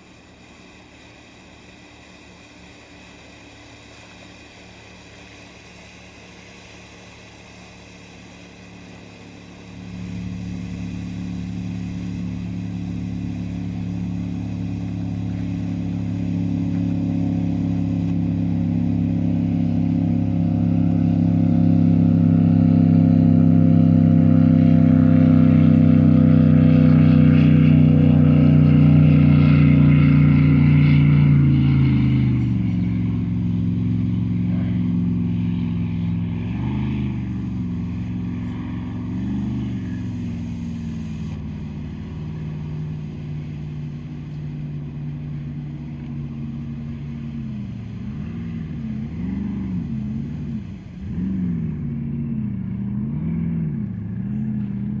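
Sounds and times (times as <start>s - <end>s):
motor running: 0.0s - 51.4s.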